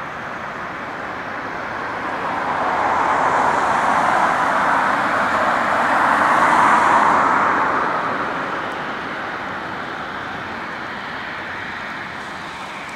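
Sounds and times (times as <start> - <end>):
jet engines rushing: 0.0 - 12.9.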